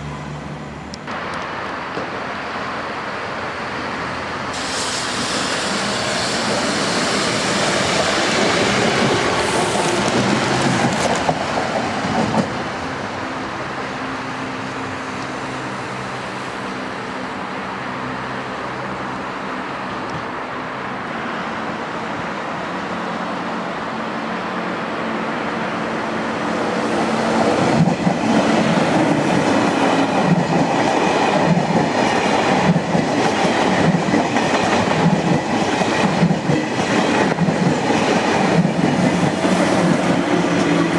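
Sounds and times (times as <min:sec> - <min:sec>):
electric trains passing: 0:00.0 - 0:40.9.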